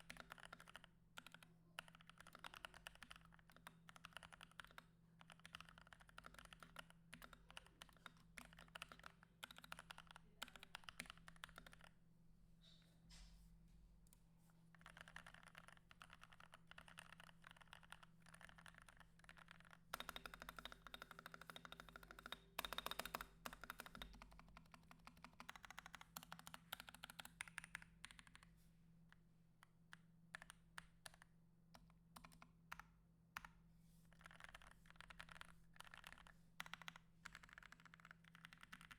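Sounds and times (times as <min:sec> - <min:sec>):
mechanical keyboard typing: 0:00.0 - 0:12.0, 0:14.7 - 0:28.5, 0:29.9 - 0:33.5, 0:34.1 - 0:38.9.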